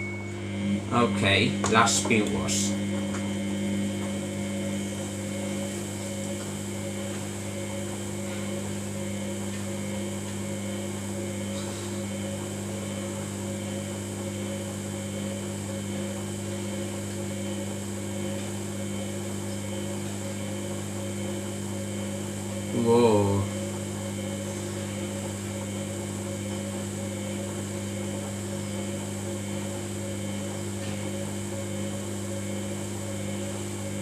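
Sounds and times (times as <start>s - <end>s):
washing machine spin hum: 0.0s - 34.0s.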